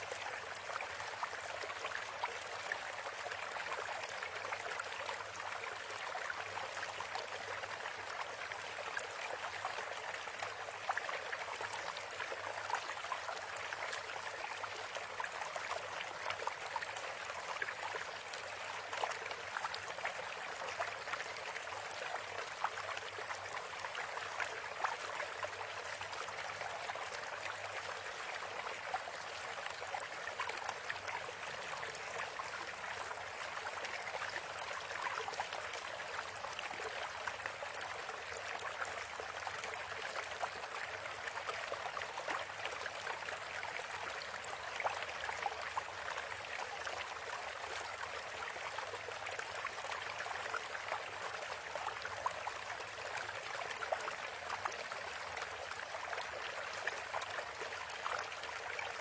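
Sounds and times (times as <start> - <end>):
running water with crackles: 0.0 - 59.0.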